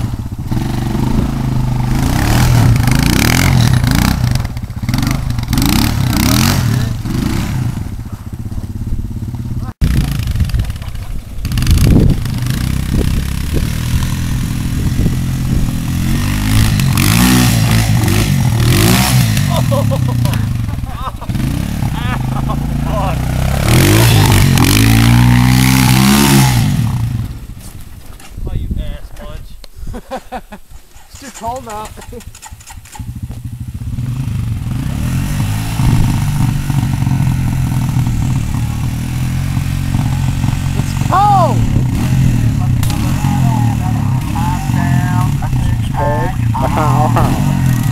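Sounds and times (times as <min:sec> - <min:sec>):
quad bike engine revving: 0:00.0 - 0:27.6, 0:31.2 - 0:47.9.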